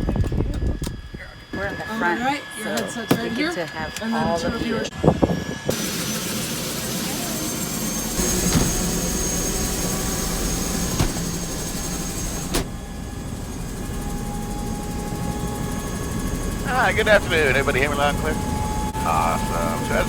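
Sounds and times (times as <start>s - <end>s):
helicopter turbine whine: 0.0s - 20.0s.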